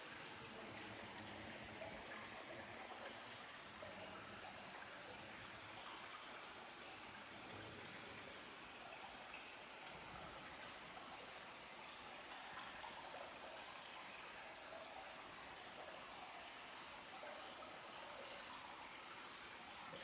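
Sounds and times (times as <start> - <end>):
faint water trickle: 0.0 - 20.0.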